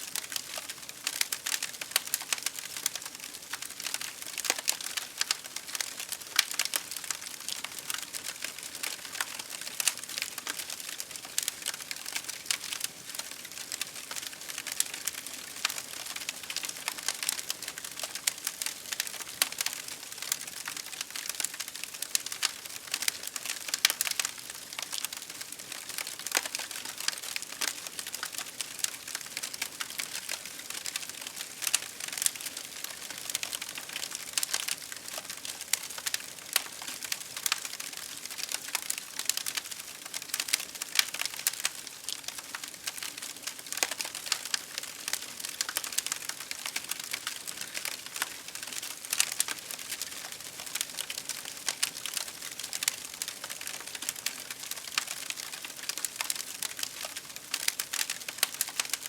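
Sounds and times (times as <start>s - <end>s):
wood campfire crackling: 0.1s - 59.0s.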